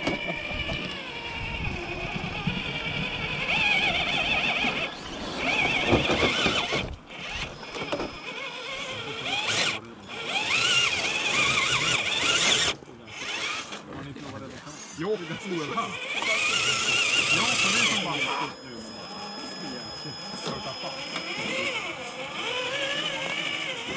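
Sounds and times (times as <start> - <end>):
electric motor and gears whining: 0.0 - 23.9.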